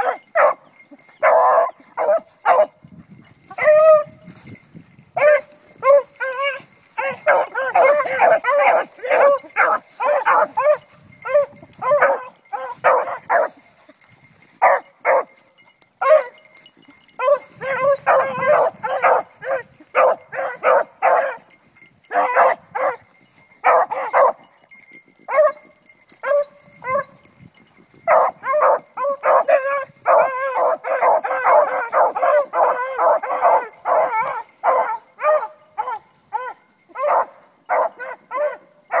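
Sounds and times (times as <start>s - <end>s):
hounds baying: 0.0s - 4.5s, 5.2s - 27.3s, 28.0s - 39.0s.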